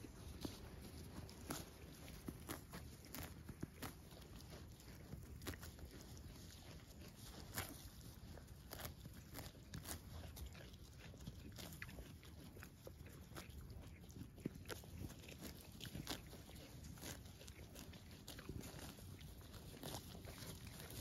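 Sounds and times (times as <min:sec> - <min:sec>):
sheep tearing grass: 0:00.0 - 0:21.0.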